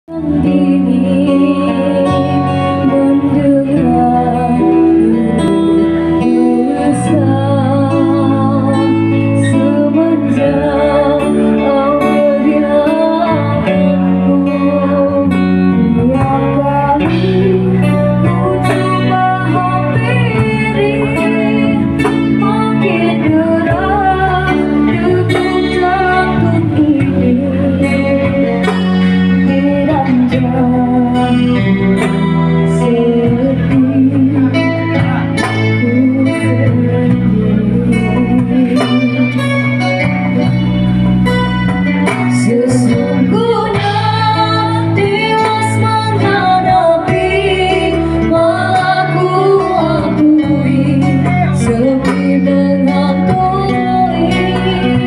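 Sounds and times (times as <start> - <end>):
young women singing: 0.1 - 39.6, 42.3 - 55.0
acoustic guitar: 0.1 - 55.0
electric keyboard: 0.1 - 55.0.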